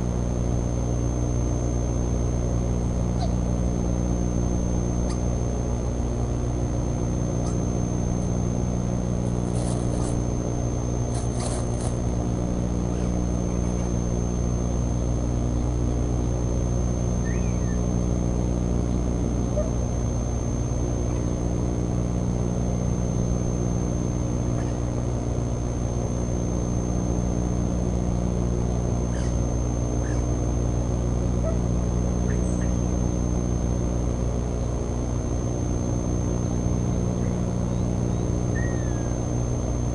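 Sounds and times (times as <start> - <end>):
high-pitched whine: 0.0 - 39.9
steady low hum: 0.0 - 39.9.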